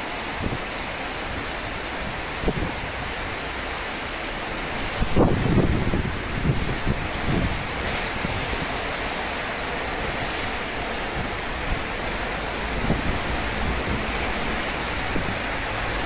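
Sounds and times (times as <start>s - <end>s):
heavy rain pouring: 0.0s - 16.0s
wind buffeting microphone: 0.2s - 3.4s, 4.4s - 16.0s.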